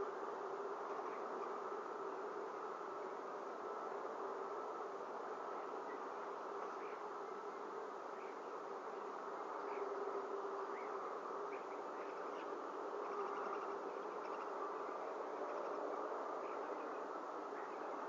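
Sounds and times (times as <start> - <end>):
steady buzzing hiss: 0.0 - 18.0.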